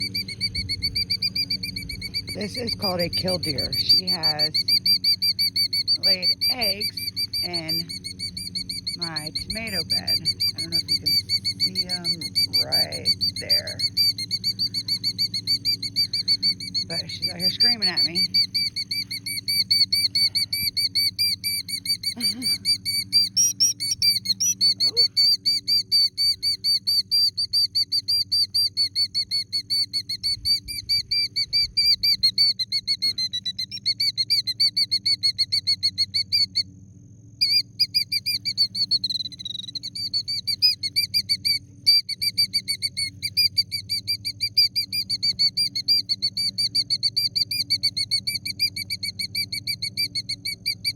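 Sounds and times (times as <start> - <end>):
bird alarm calls: 0.0 - 36.6, 37.4 - 50.9.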